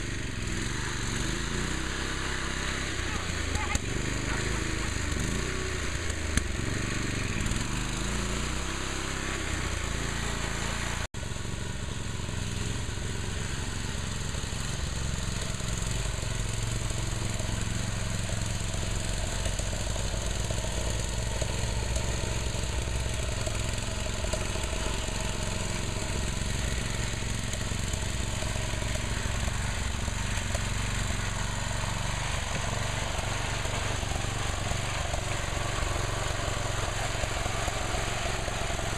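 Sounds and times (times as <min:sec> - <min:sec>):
go-kart engine running under load: 0:00.0 - 0:38.9.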